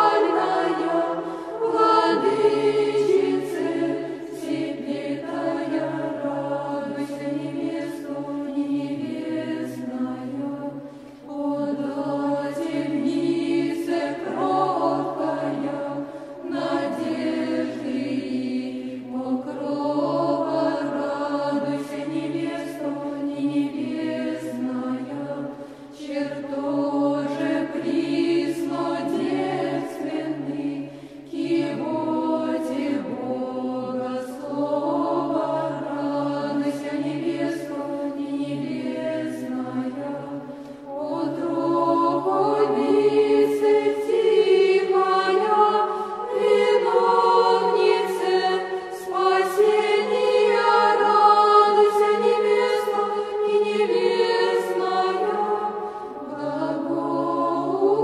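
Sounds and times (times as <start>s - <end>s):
male choir chanting: 0.0s - 58.0s.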